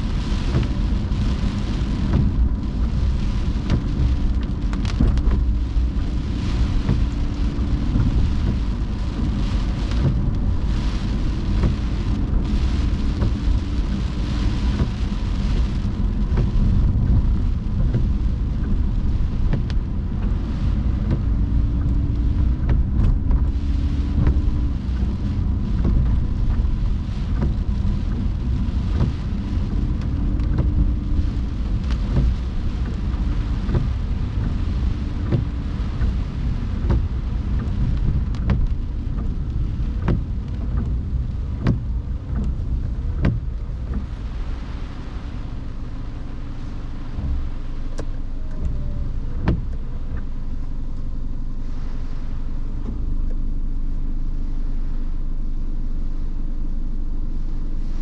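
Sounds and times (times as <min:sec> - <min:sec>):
car rumbling on wet road: 0:00.0 - 0:58.0
rain and tyre spray hiss: 0:00.0 - 0:58.0.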